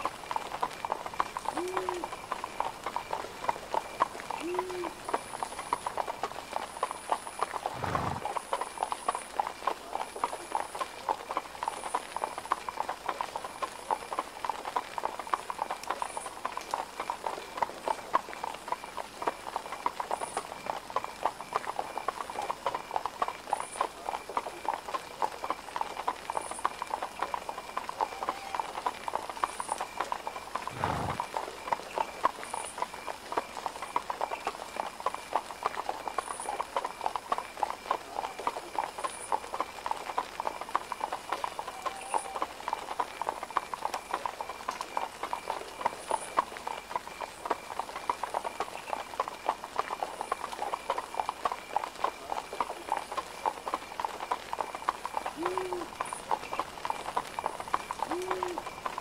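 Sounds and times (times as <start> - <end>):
clip-clop of hooves: 0.0 - 59.0.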